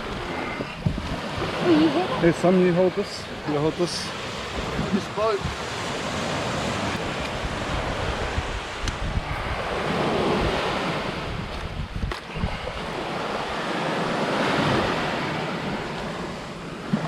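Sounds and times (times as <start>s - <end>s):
surf washing on shore: 0.0s - 17.0s
wind buffeting microphone: 0.0s - 17.0s.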